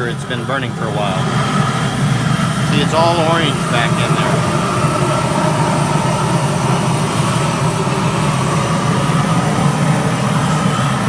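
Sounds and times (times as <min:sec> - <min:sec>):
propane torch flame roaring: 0:00.0 - 0:11.0.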